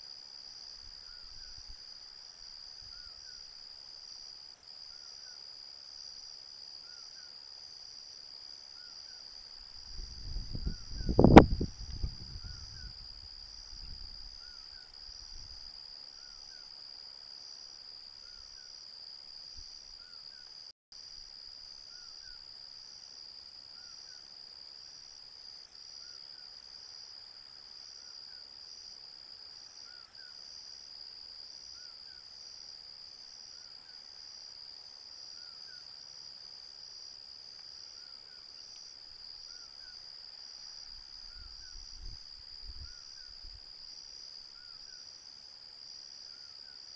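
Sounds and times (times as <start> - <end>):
faint short insect chirp: 0.0 - 46.9
high-pitched insect trill: 0.0 - 46.9.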